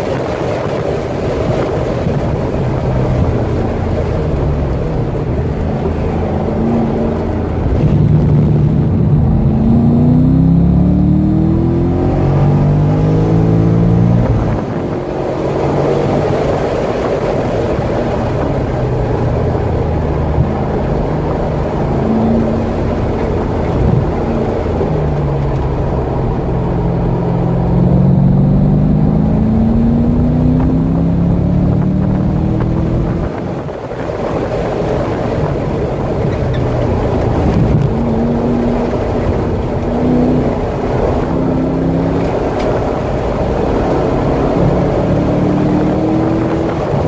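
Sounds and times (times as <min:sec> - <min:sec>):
car engine accelerating: 0:00.0 - 0:47.0
wind noise: 0:00.0 - 0:47.0.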